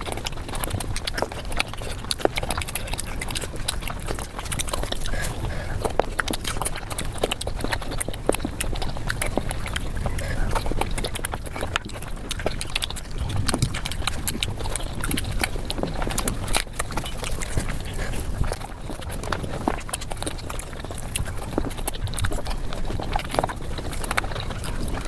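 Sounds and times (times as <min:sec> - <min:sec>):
mouth clicks and smacks chewing: 0:00.0 - 0:25.0.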